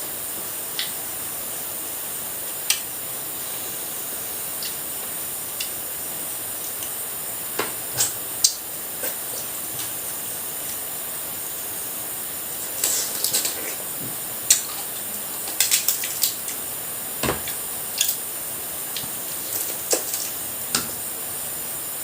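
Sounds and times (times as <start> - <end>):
steady high hiss: 0.0 - 22.0.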